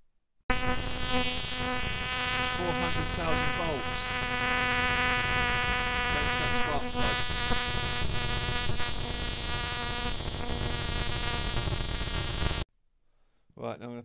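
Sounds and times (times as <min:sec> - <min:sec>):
spark plug arcing buzz: 0:00.5 - 0:12.7.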